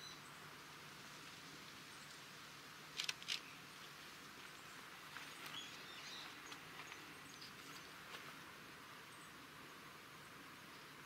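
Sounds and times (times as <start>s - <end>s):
background hiss: 0.0s - 11.0s
small birds chirping: 0.0s - 11.0s.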